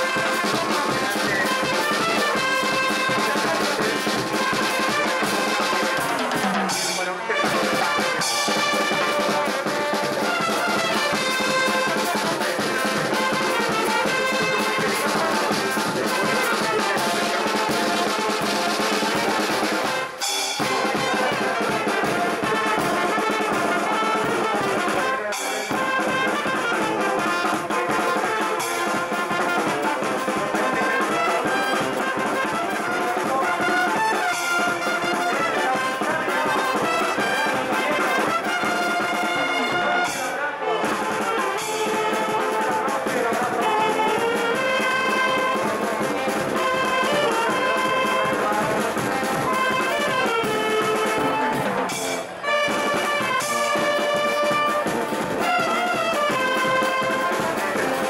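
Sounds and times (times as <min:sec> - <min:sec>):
street brass band playing: 0:00.0 - 0:58.0.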